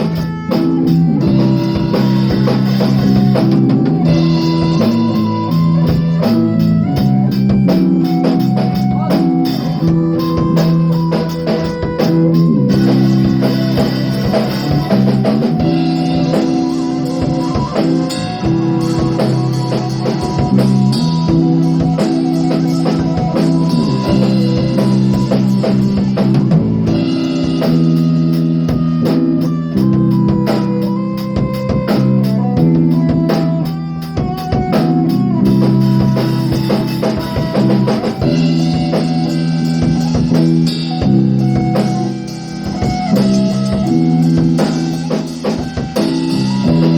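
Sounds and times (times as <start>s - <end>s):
drum kit beat: 0.0s - 46.9s
sustained guitar chords: 0.0s - 46.9s.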